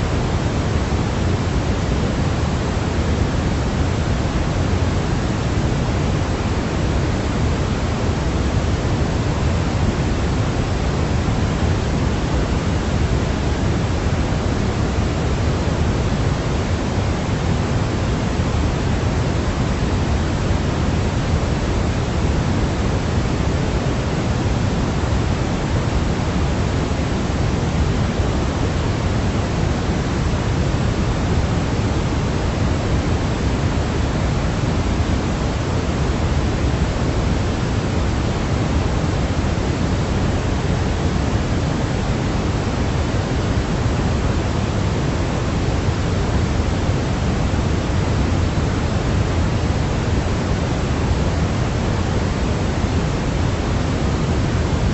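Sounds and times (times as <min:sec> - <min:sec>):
steady pink noise: 0:00.0 - 0:54.9.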